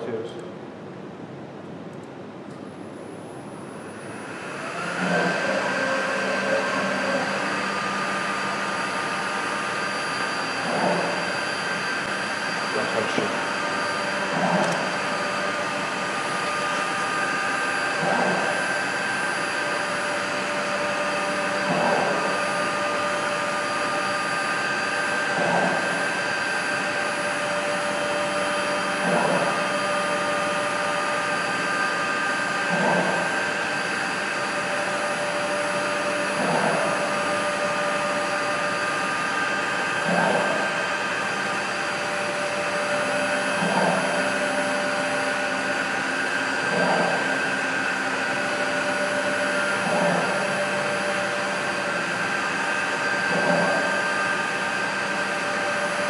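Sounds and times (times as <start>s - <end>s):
cnc router whirring: 2.7s - 56.0s
stepper motor whine: 2.7s - 56.0s.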